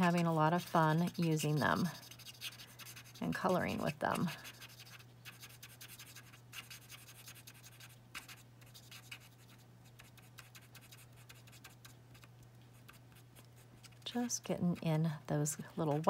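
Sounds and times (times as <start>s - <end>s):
marker scratching on card: 0.0s - 14.3s
low steady hum: 0.0s - 16.0s.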